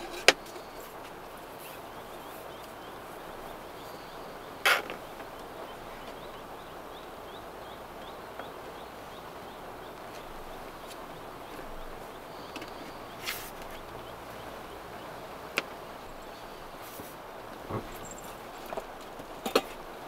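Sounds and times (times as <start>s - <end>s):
bird chirping: 0.0s - 20.0s
steady rain: 0.0s - 20.0s.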